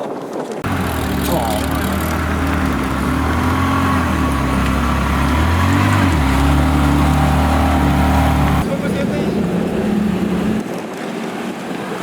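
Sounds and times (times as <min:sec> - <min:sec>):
car engine idling: 0:00.6 - 0:10.6.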